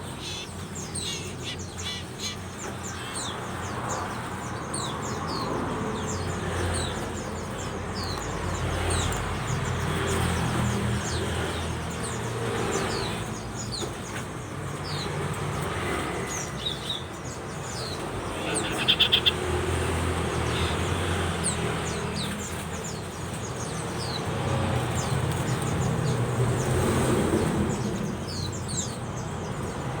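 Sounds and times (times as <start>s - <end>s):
birds calling with whistled notes: 0.0s - 30.0s.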